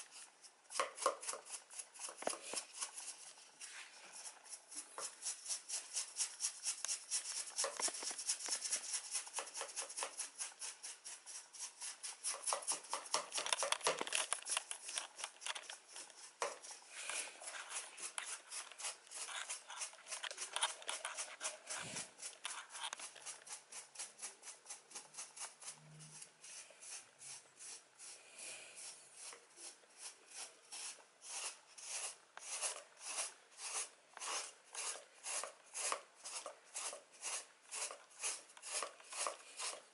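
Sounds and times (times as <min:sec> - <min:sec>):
comb scraping cat fur: 0:00.0 - 0:39.9.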